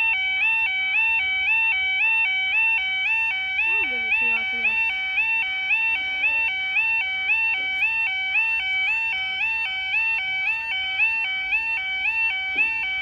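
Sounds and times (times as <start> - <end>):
level crossing alarm warbling: 0.0 - 13.0.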